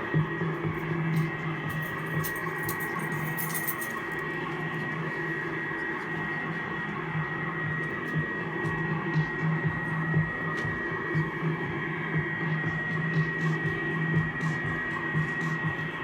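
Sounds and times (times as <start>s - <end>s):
electronic hum with high whine: 0.0s - 16.0s
low wavering drone: 0.0s - 16.0s.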